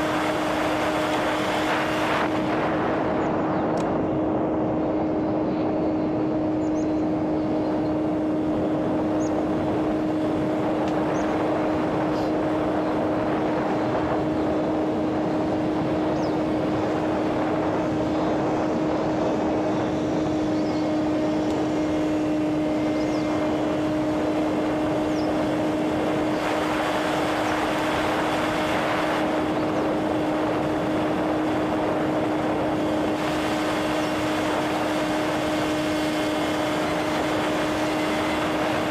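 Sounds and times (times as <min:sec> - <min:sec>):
model airplane motor and propeller: 0:00.0 - 0:38.9.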